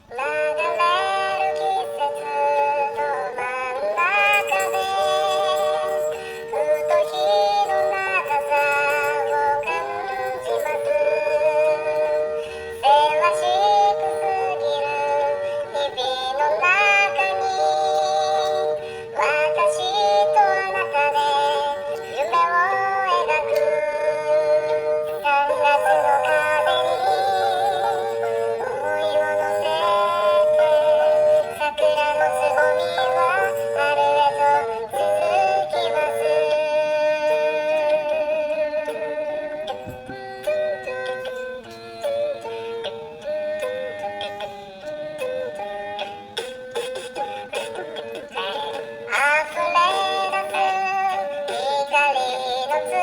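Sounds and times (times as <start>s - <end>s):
sustained musical accompaniment: 0.0s - 53.0s.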